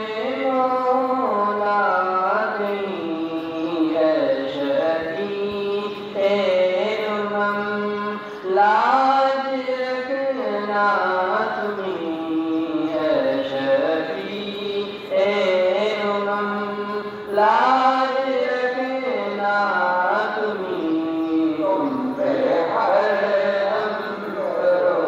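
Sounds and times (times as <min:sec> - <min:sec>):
person chanting a slow melody: 0:00.0 - 0:25.0.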